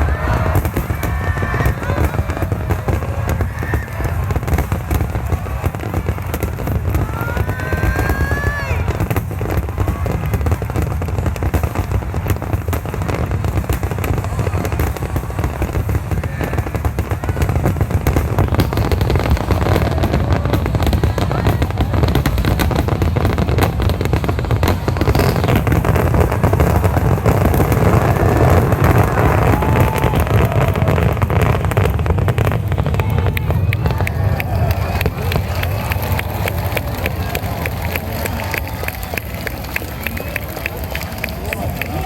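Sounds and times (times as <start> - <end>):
fireworks booming and crackling: 0.0 - 42.0.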